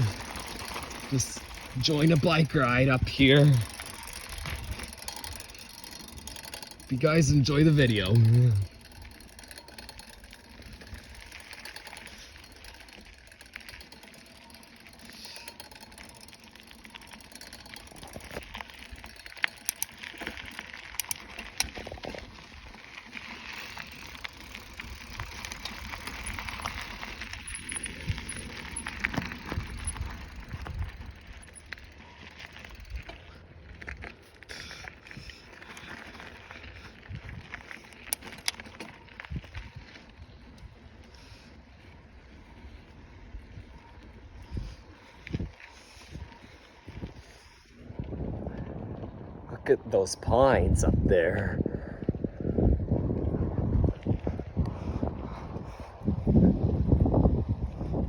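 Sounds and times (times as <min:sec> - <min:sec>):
bicycle clicks and rattles: 0:00.0 - 0:50.5, 0:51.2 - 0:58.0
bicycle rolling: 0:00.0 - 0:58.0.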